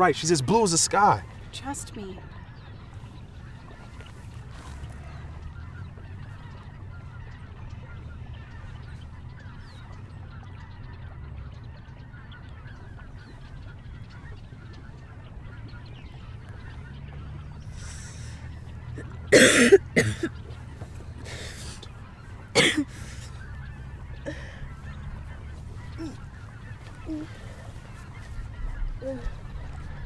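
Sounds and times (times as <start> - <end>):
distant waterfowl honking: 0.0 - 30.0.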